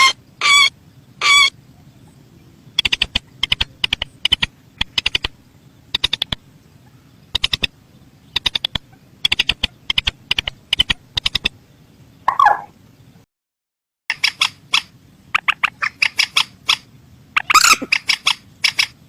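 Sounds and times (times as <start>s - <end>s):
bird ticking calls: 0.0s - 12.7s, 14.1s - 19.0s.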